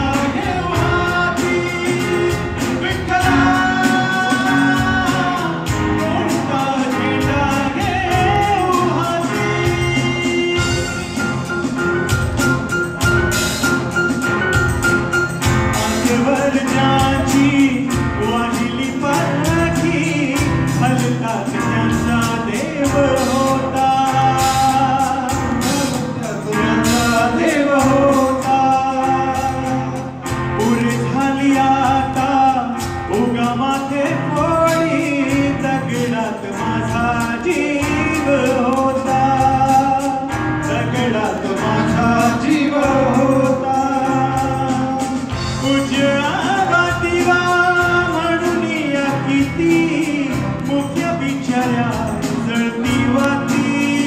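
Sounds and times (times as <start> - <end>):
men singing: 0.0 - 11.8, 15.5 - 54.0
live band playing: 0.0 - 54.0.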